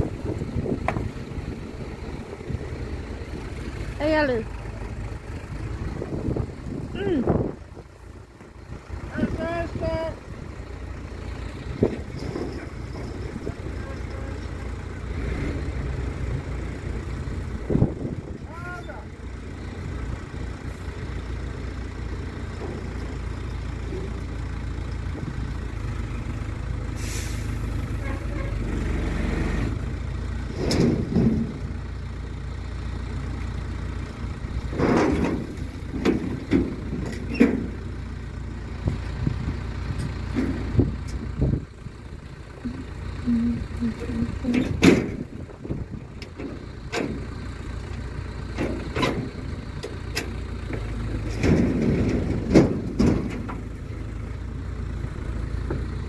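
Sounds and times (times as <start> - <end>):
diesel engine running: 0.0 - 56.0
soil and bucket striking metal trailer: 0.0 - 56.0.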